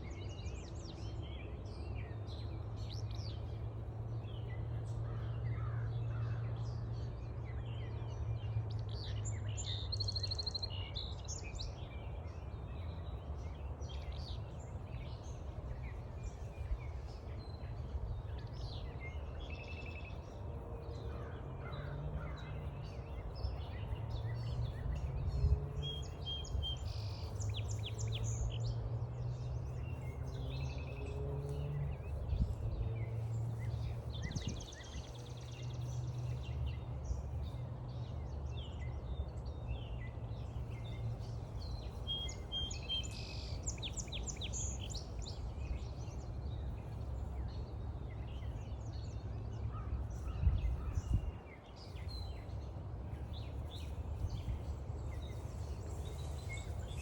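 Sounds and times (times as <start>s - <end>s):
wild birds calling and singing: 8.9s - 57.0s.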